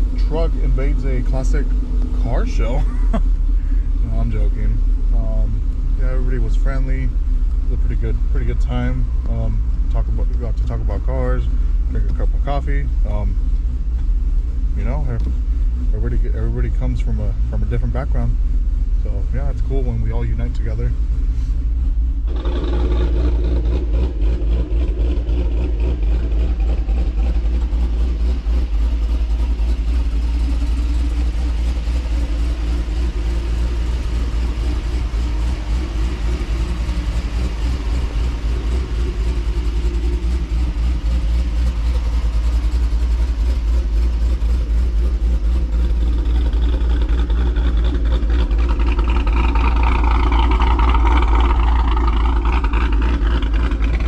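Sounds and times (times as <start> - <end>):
pickup engine deep rumble: 0.0 - 54.0.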